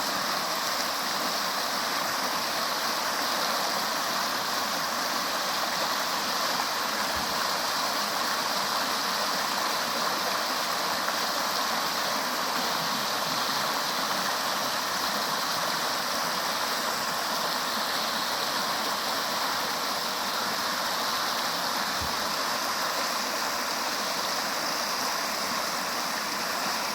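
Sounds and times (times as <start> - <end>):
river water rushing and gurgling: 0.0 - 26.9.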